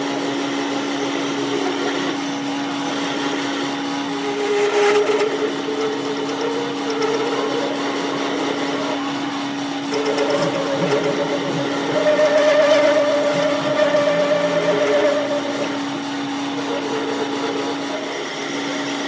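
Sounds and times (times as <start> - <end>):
wavering machine whine: 0.0 - 19.0
machine motor hum: 0.1 - 19.0.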